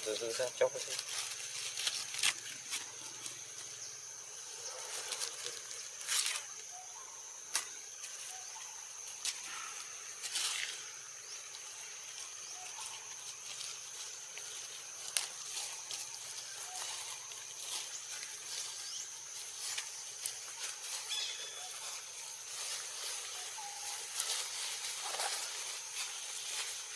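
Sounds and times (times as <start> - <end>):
high-pitched insect chorus: 0.0 - 26.9.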